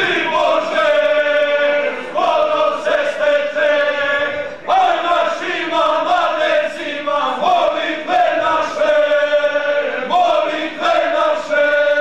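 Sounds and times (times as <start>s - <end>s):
group of voices chanting: 0.0s - 12.0s.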